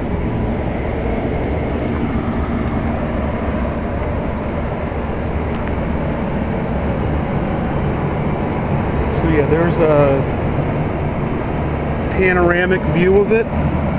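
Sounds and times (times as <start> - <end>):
air conditioner unit running: 0.0 - 13.9.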